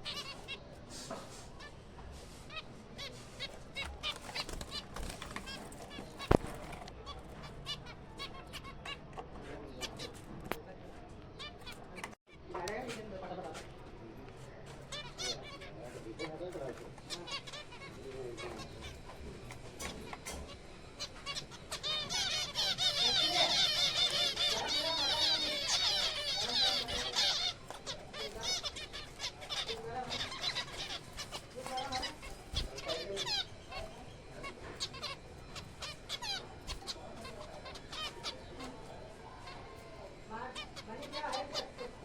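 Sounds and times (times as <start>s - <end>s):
finches honking calls: 0.0s - 10.3s, 14.7s - 42.0s.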